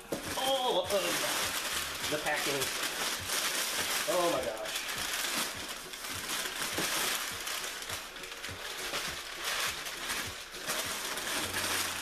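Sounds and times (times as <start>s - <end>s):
packing paper rustling: 0.0s - 12.0s.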